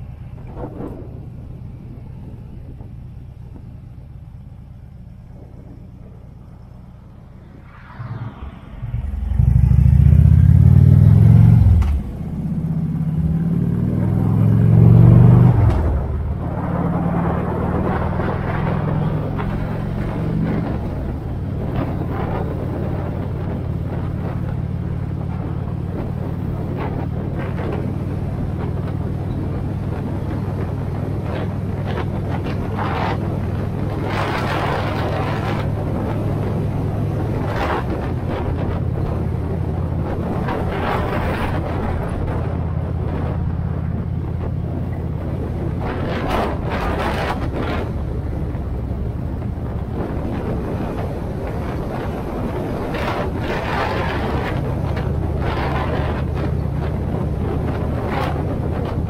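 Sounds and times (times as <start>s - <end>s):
road and wind noise: 0.0s - 59.0s
vehicle engine accelerating: 5.4s - 59.0s.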